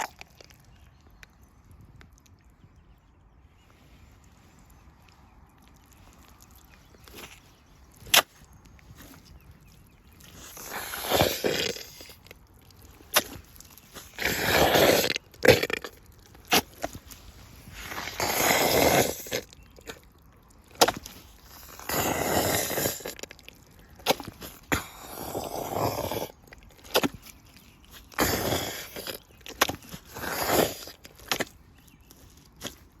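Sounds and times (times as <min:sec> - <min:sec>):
rubber boots squelching in mud: 0:04.1 - 0:33.0.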